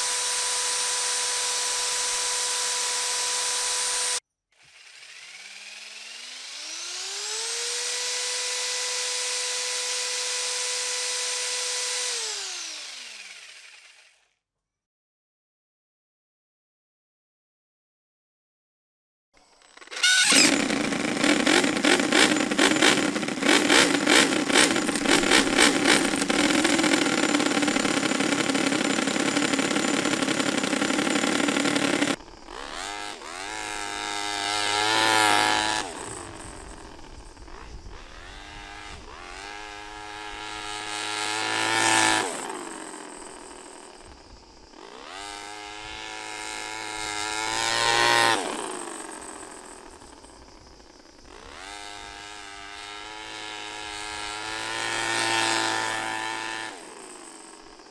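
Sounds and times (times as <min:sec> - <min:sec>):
rc car accelerating away: 0:00.0 - 0:14.2, 0:19.4 - 0:57.9
rc car engine revving: 0:00.0 - 0:14.2, 0:19.4 - 0:57.9.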